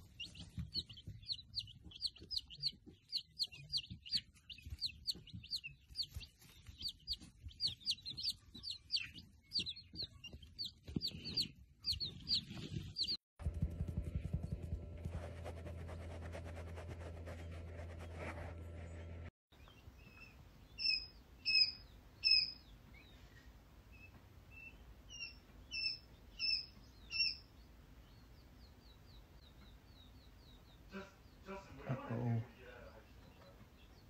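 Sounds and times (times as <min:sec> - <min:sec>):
baby chicks peeping: 0:00.0 - 0:34.0.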